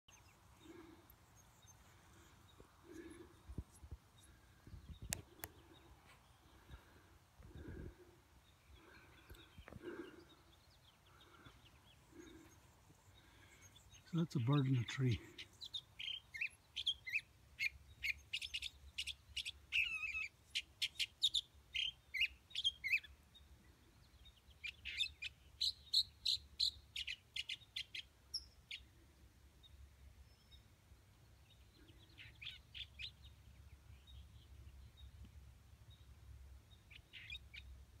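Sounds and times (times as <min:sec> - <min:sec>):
songbird singing: 0:00.1 - 0:38.0.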